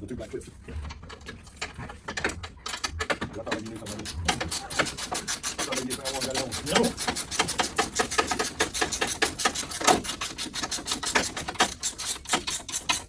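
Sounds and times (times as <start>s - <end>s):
hand tools clicking and rasping: 0.0s - 13.0s.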